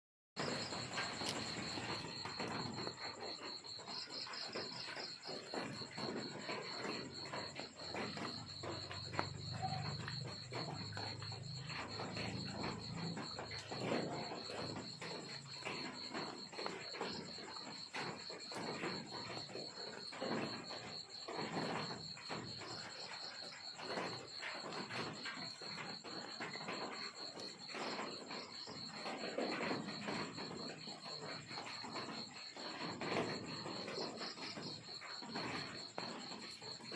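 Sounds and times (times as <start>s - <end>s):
crickets chirping: 0.4s - 36.9s.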